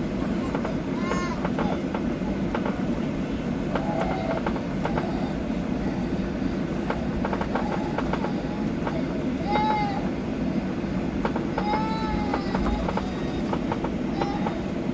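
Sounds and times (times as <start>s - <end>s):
airplane cabin rumble: 0.0s - 14.9s
rattling clicks of cabin fittings: 0.2s - 5.4s, 6.8s - 10.2s, 11.0s - 14.7s.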